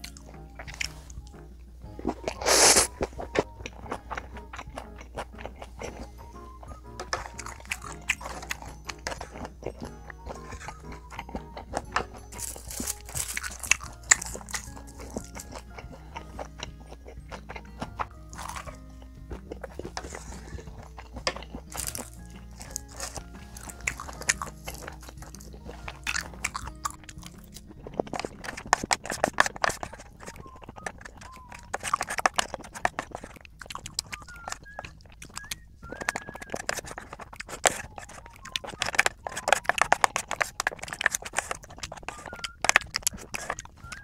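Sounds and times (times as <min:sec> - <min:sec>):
close chewing with crisp crunches: 0:00.0 - 0:44.0
soft background music: 0:00.0 - 0:44.0
wet mouth clicks: 0:02.2 - 0:44.0.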